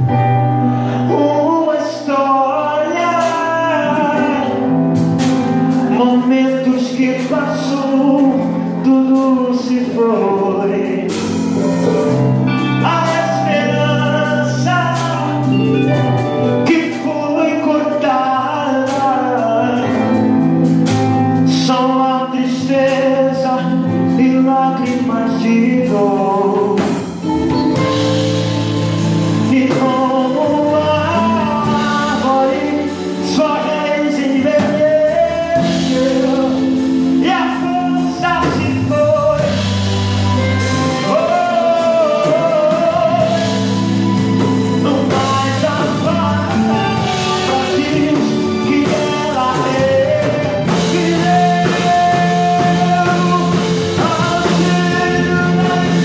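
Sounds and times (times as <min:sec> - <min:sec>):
band accompaniment: 0:00.0 - 0:56.0
person singing slow melody: 0:00.0 - 0:56.0.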